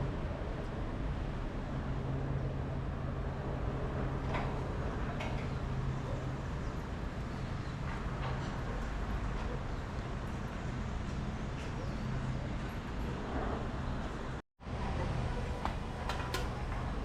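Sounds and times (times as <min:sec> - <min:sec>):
city street noise: 0:00.0 - 0:17.0.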